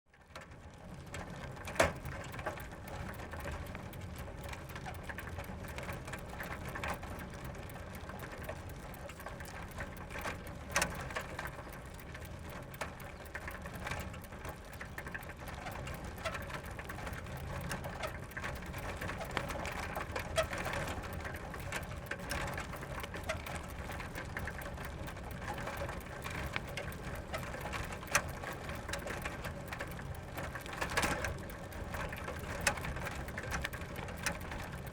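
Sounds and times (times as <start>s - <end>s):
bicycle chain rattling and ticking: 0.2s - 34.9s.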